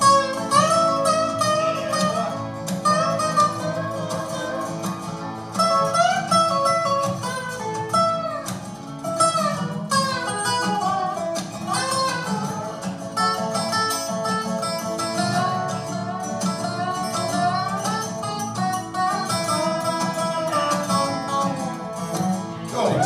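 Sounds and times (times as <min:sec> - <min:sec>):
slide resonator guitars playing: 0:00.0 - 0:23.0.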